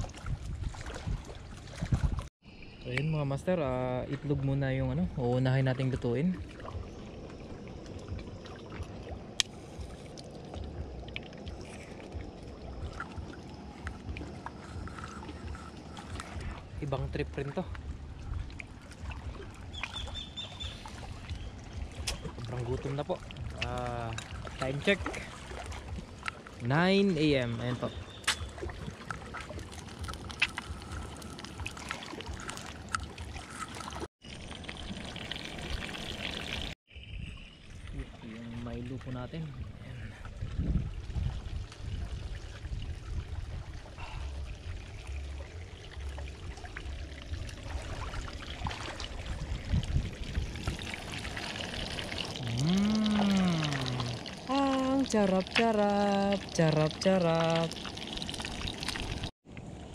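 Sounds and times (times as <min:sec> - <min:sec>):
wind rumble: 0:00.0 - 0:02.3, 0:03.4 - 0:54.6
lapping water: 0:06.3 - 0:59.3.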